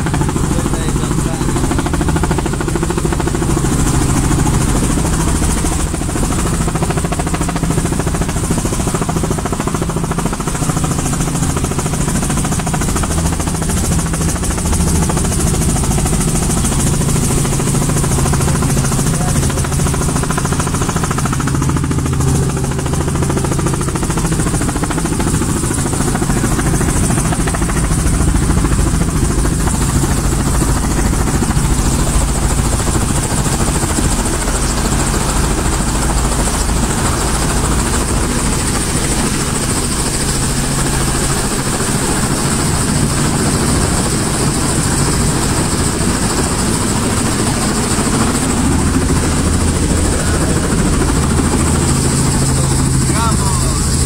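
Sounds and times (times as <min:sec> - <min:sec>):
helicopter engine and rotors: 0:00.0 - 0:54.0.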